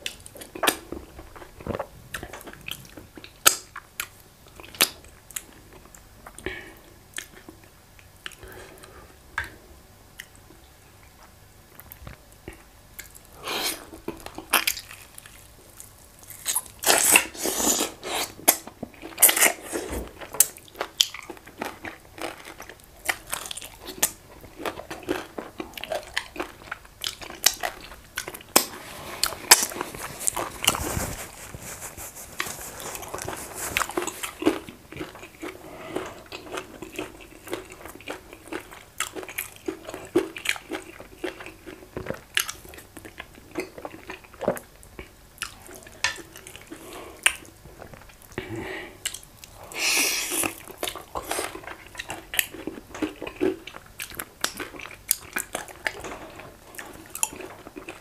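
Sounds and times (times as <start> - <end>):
wet chewing and smacking: 0.0 - 6.4, 10.2 - 31.0, 31.7 - 48.4, 49.0 - 49.6, 50.3 - 58.0.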